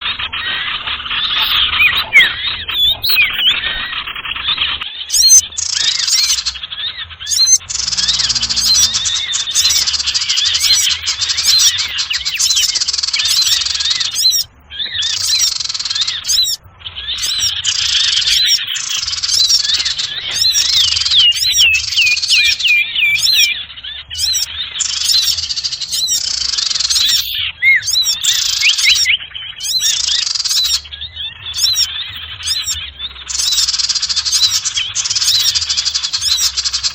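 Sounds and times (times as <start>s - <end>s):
small birds chirping and twittering: 0.0s - 36.9s.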